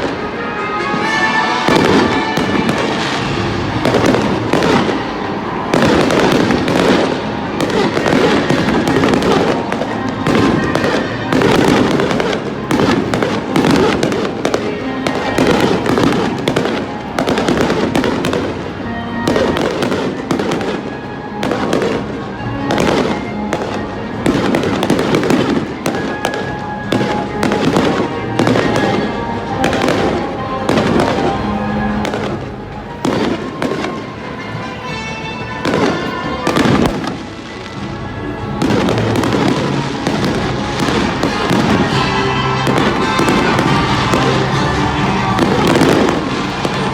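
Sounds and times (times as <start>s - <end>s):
fireworks bursting: 0.0s - 46.9s
music playing: 0.0s - 46.9s.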